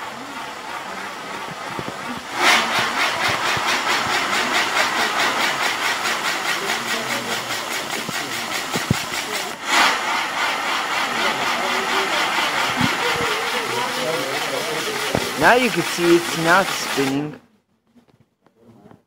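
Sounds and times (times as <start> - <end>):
spinning fireworks hissing: 0.0 - 17.4.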